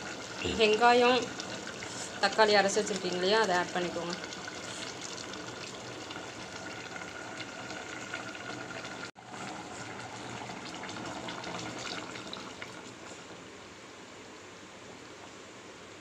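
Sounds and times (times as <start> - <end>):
curry bubbling and sizzling: 0.0 - 13.6.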